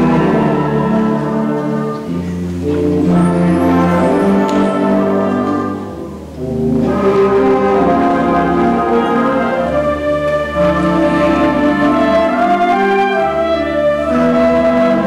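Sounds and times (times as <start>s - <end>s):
concert band playing chords: 0.0s - 15.0s.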